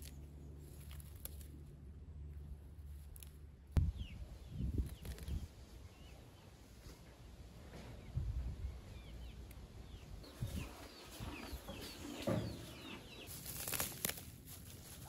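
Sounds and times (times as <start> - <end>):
chickens peeping and clucking: 2.2 - 15.0.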